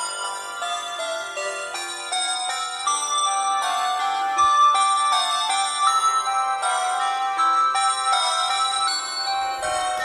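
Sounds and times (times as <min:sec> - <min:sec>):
phone ringtone melody: 0:00.0 - 0:10.0.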